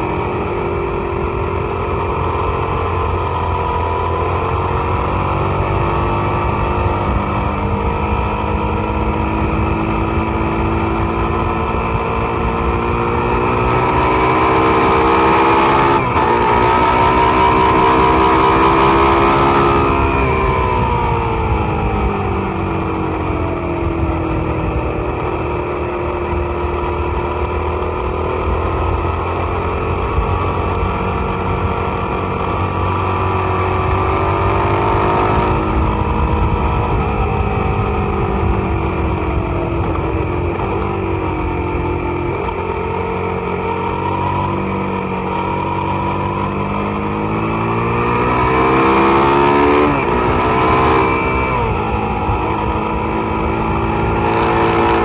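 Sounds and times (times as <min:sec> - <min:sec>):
motorcycle engine pulling hard: 0:00.0 - 0:55.0
wind rushing over microphone: 0:00.0 - 0:55.0.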